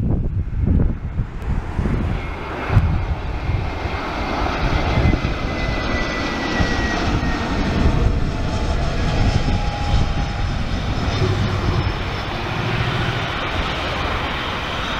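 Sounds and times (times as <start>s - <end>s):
high jet engine whine: 0.0s - 14.9s
jet engine rumble: 0.0s - 14.9s.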